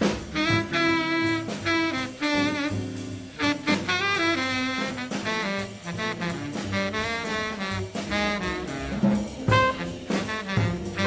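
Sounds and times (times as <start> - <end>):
jazz quintet playing: 0.0 - 11.0.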